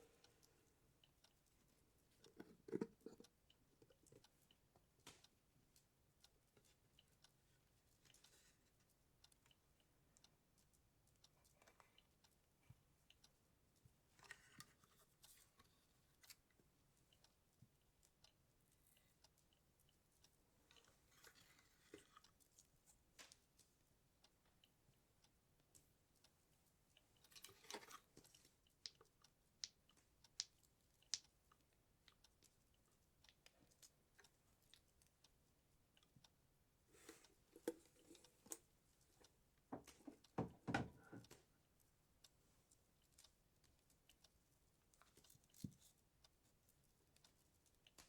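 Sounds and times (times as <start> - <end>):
light clicks and taps: 0.0 - 35.4, 36.0 - 48.0.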